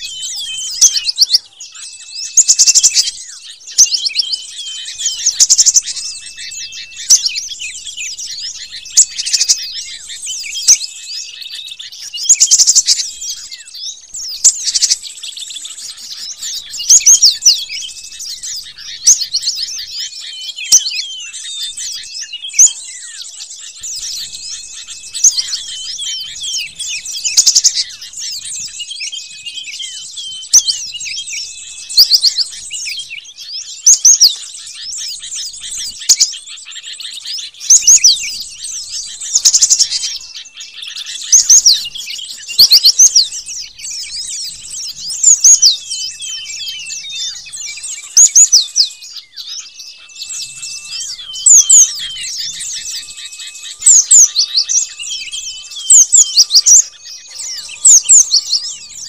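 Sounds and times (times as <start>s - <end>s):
birds chirping: 0.0s - 59.0s
soft background bird chirps: 0.0s - 59.0s.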